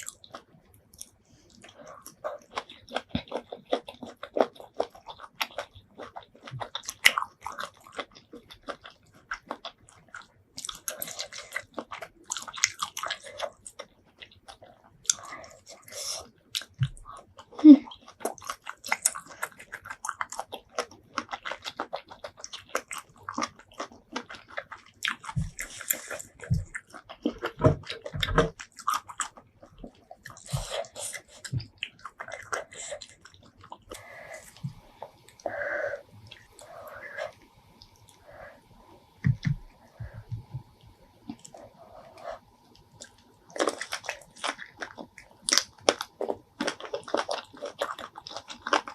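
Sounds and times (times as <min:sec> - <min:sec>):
chewing seafood: 0:00.0 - 0:48.9.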